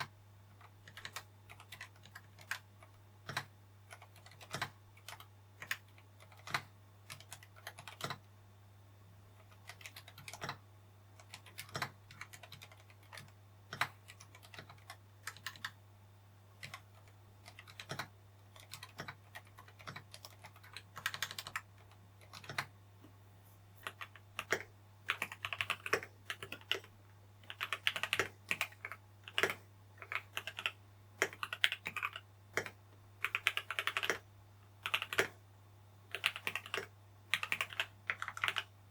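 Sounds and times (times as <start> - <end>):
mechanical keyboard typing: 0.0 - 8.3, 9.4 - 10.6, 11.2 - 15.8, 16.6 - 22.7, 23.8 - 35.4, 36.1 - 38.7.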